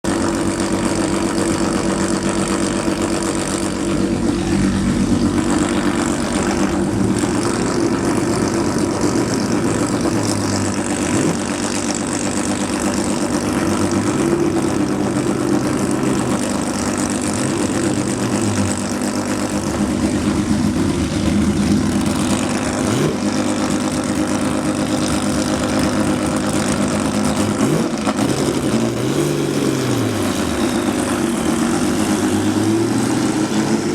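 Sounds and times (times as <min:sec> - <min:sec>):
race car engines idling and revving: 0:00.0 - 0:33.9.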